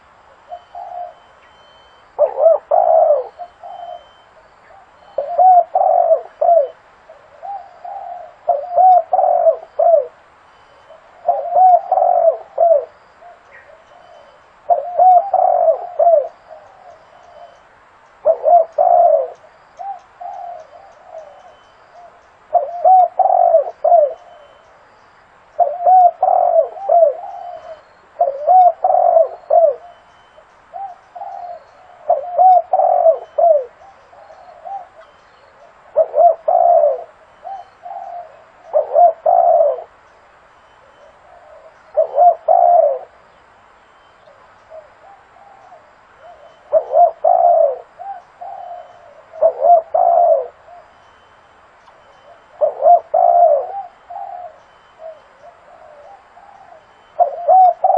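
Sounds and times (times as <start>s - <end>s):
dove cooing: 0.0s - 17.6s, 18.2s - 24.8s, 25.6s - 40.0s, 40.8s - 43.3s, 44.2s - 51.4s, 52.0s - 57.9s.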